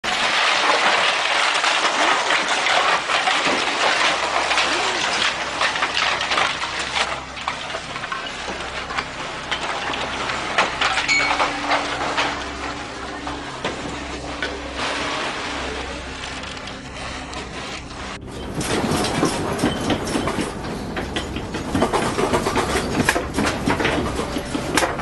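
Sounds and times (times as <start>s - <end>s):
buildings collapsing: 0.0s - 25.0s
roof tiles clattering: 0.0s - 25.0s.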